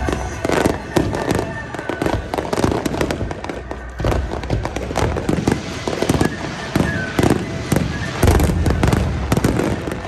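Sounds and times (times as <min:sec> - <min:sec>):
deep fireworks booms: 0:00.0 - 0:10.0
fireworks bangs and crackles: 0:00.0 - 0:10.0.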